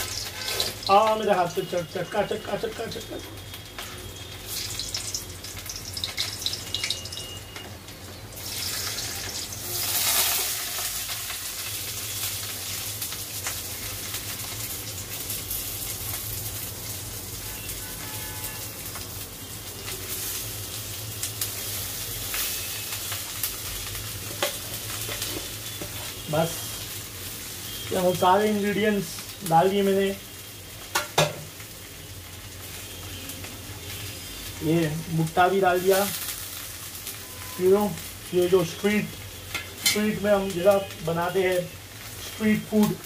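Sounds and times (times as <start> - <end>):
hot oil sizzling: 0.0 - 43.0.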